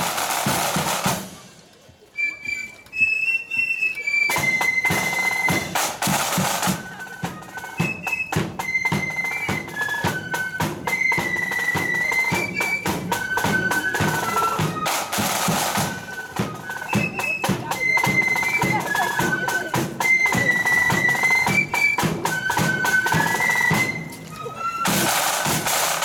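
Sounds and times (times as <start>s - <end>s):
bass drum beating march rhythm: 0.0s - 1.6s, 4.2s - 26.0s
snare drums: 0.0s - 1.8s, 4.2s - 26.0s
flute melody: 2.0s - 26.0s.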